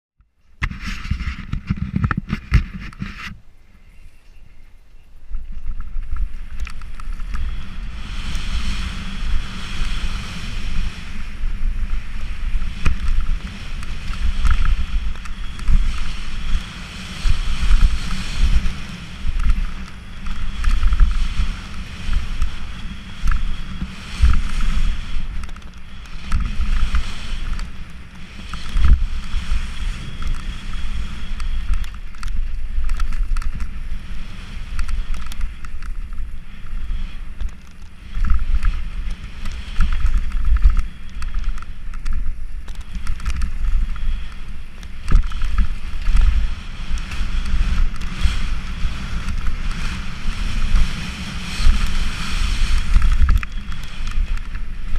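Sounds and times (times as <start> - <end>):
mountain bike rumble and rattle: 0.2 - 54.9
wind buffeting microphone: 0.6 - 3.4, 4.4 - 54.9.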